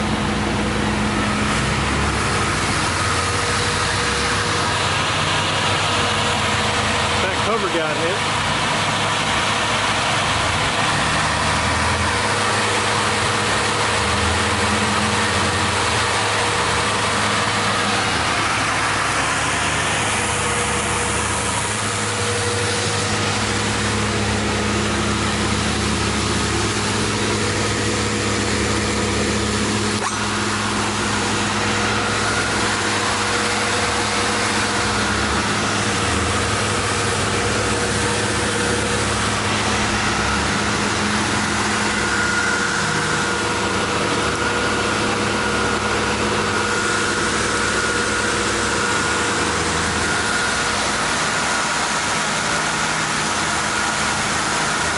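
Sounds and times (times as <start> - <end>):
electric motor hum and whir: 0.0 - 54.9.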